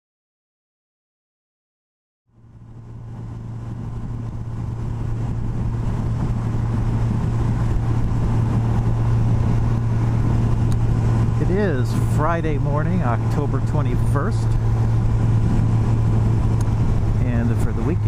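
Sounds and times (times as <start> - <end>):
motorcycle engine cruising: 2.3 - 18.0
road and wind noise: 2.3 - 18.0.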